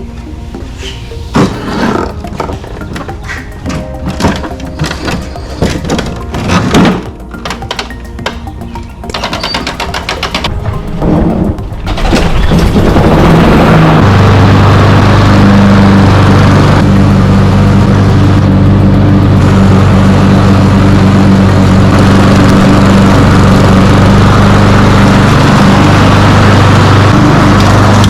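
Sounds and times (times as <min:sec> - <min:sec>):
lawn mower engine running: 0:01.3 - 0:28.0.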